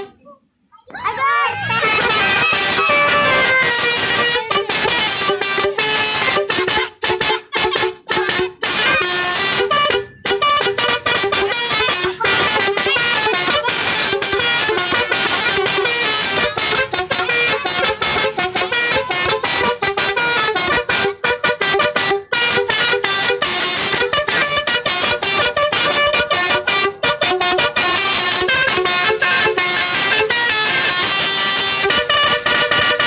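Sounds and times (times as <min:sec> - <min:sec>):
musical bus horn playing a tune: 0:01.5 - 0:33.0.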